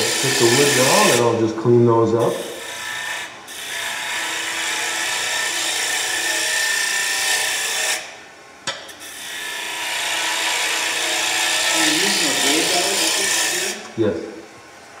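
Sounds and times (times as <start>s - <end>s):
lathe tool scraping wood: 0.0s - 1.5s, 2.2s - 8.1s, 9.0s - 14.0s.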